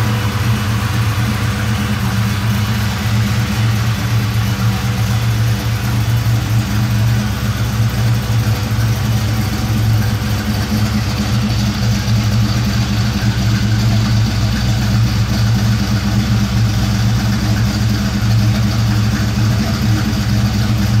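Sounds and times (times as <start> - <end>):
pickup truck engine idling: 0.0 - 21.0.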